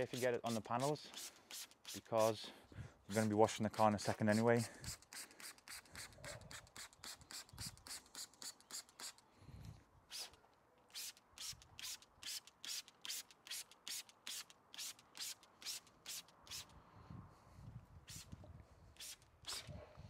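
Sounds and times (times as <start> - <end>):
spray bottle squirting: 0.0 - 2.4, 3.1 - 9.2, 10.1 - 16.7, 18.1 - 18.4, 19.0 - 19.7.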